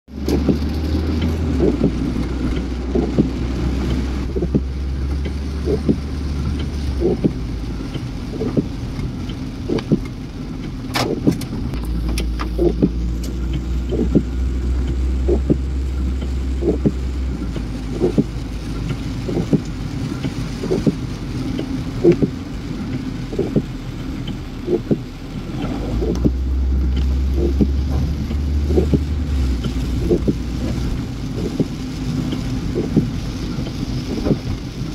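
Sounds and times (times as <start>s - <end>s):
car engine and tyre rumble: 0.0s - 34.9s
rain on car: 0.1s - 34.9s.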